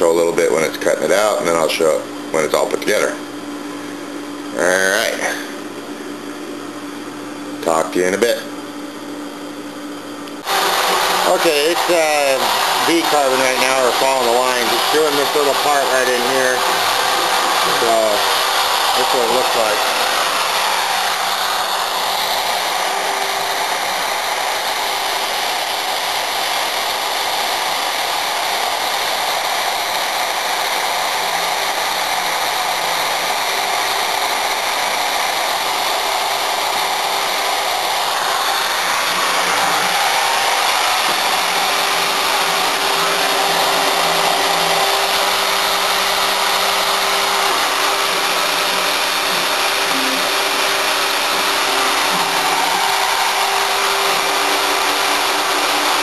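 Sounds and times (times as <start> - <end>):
router spindle whine and hiss: 0.0 - 56.0.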